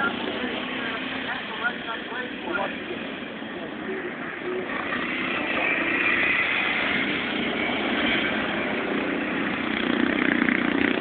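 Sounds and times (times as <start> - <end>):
racing lawn mower engines: 0.0 - 11.0.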